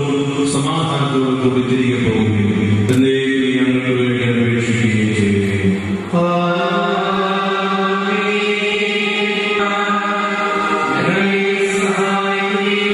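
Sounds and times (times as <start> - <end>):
liturgical chant: 0.0 - 12.9.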